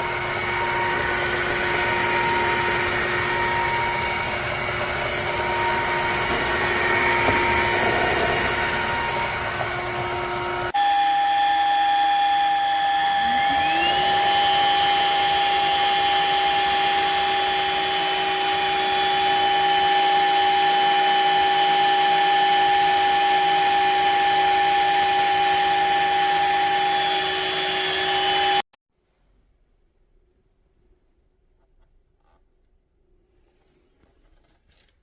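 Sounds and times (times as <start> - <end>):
vacuum mop whining: 0.0 - 28.6.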